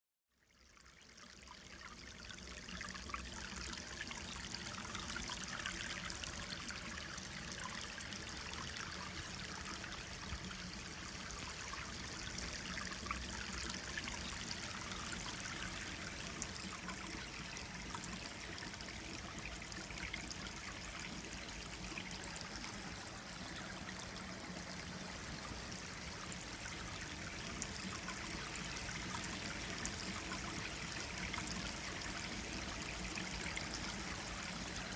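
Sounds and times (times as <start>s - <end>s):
stream flowing over stones: 0.7s - 34.9s.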